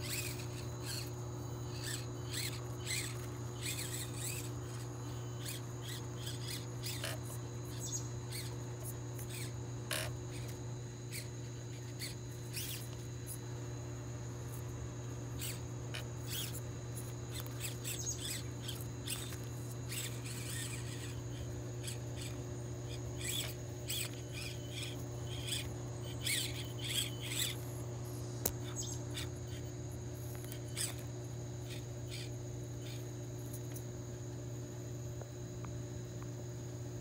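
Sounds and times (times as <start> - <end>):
small birds chirping: 0.0 - 33.8
steady low hum: 0.0 - 37.0.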